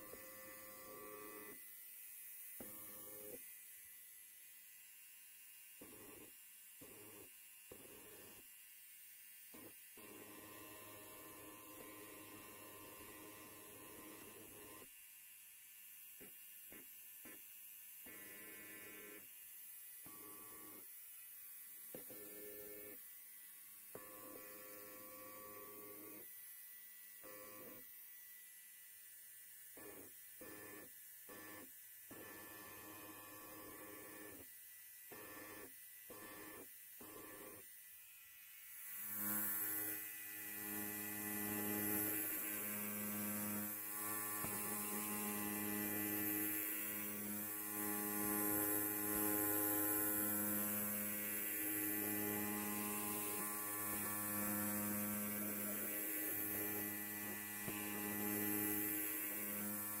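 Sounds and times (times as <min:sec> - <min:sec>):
electric hair clipper buzzing: 0:00.0 - 1:00.0.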